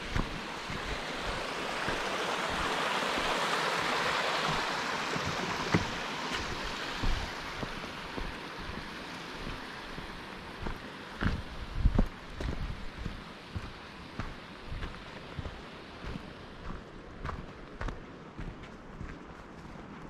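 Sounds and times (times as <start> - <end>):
footsteps on trail: 0.0 - 20.0
mountain stream rushing: 0.0 - 20.0.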